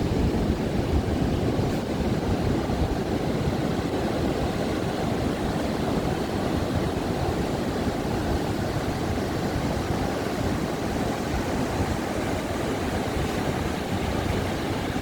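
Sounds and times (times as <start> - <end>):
ocean waves breaking on sand: 0.0 - 15.0.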